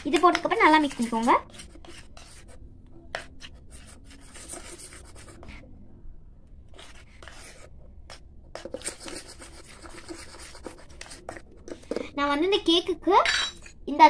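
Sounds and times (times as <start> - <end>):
spoon stirring thick batter: 0.0 - 5.8, 6.6 - 12.2.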